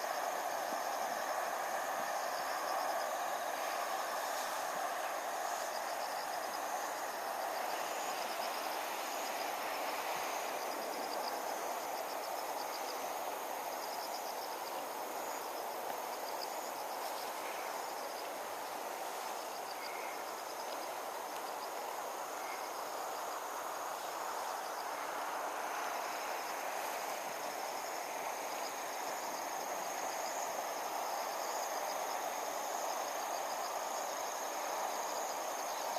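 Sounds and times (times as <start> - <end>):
background noise: 0.0 - 35.9
crickets trilling: 0.0 - 35.9.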